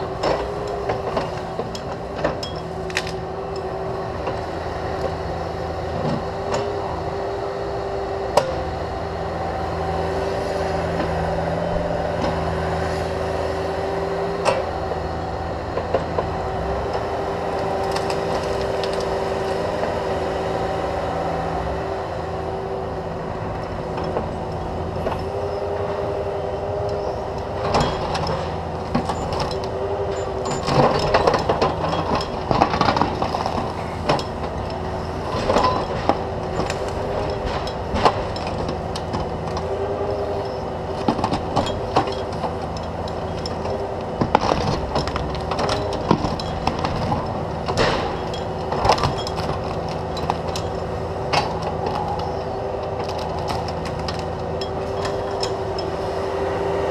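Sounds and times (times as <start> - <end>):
roots and wood cracking: 0.0 - 5.6, 10.2 - 21.9, 23.4 - 56.9
excavator diesel engine running: 0.0 - 56.9.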